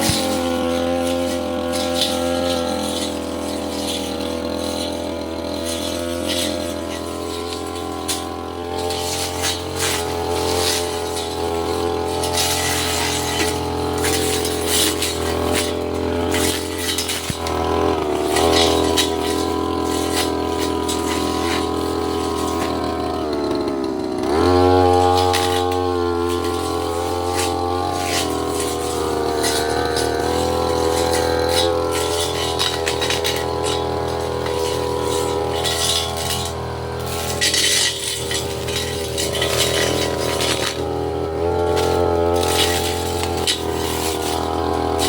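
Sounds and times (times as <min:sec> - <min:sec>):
blade striking stems and debris: 0:00.0 - 0:45.0
brush cutter engine running: 0:00.0 - 0:45.0.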